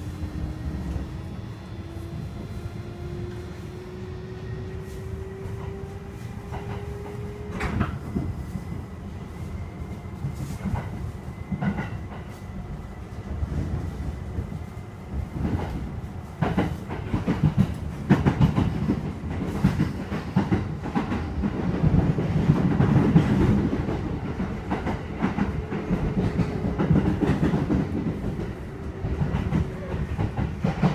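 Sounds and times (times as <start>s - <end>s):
electric train rumbling: 0.0s - 30.9s.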